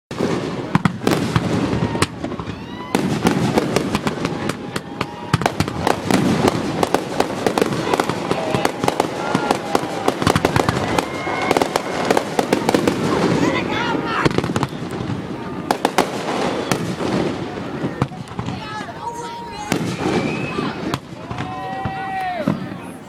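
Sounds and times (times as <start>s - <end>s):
fireworks bangs and crackles: 0.1s - 23.0s.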